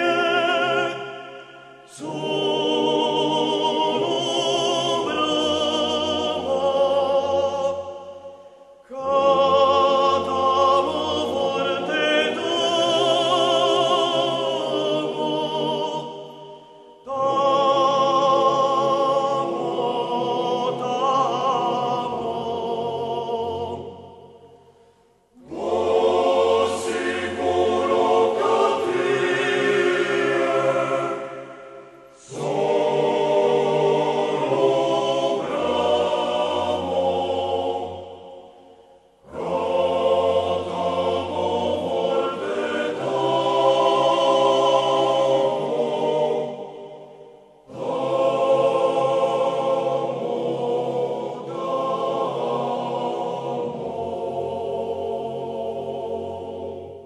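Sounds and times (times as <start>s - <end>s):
person singing with vibrato: 0.0s - 57.0s.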